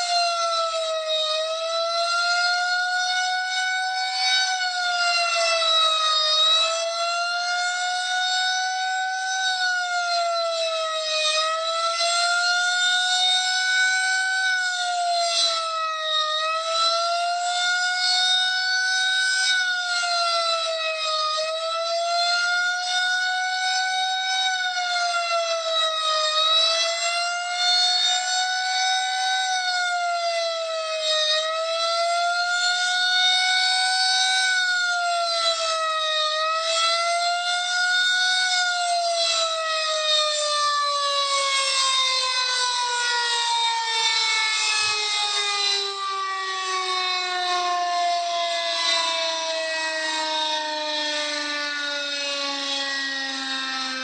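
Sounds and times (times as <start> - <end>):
emergency siren wailing: 0.0 - 54.0.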